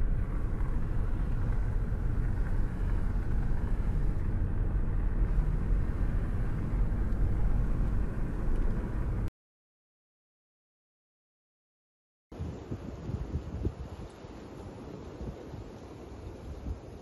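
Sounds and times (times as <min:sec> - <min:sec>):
car engine and tyre rumble: 0:00.0 - 0:09.3, 0:12.4 - 0:17.0.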